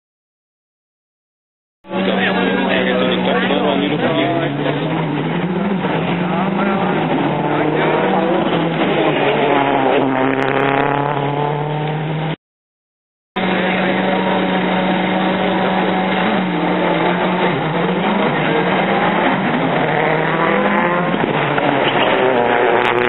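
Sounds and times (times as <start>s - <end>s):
rally car engine revving: 1.8s - 12.4s, 13.4s - 23.0s
rally car engine passing by: 1.9s - 12.4s, 13.4s - 23.0s.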